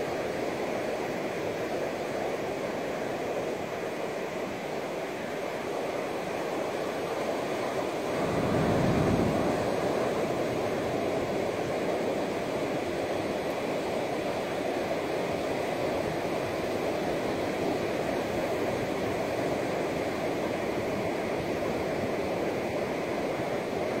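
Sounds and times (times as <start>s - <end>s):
small waves washing on sand: 0.0s - 24.0s.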